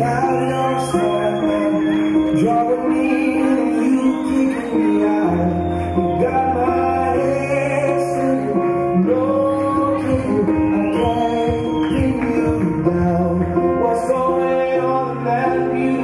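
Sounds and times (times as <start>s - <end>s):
held chords over bass line: 0.0s - 16.0s
person singing: 0.0s - 16.0s.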